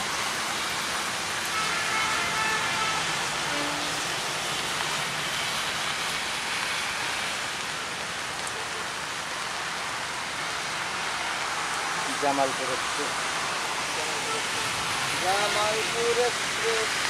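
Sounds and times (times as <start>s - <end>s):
rain hissing on ground: 0.0s - 17.0s.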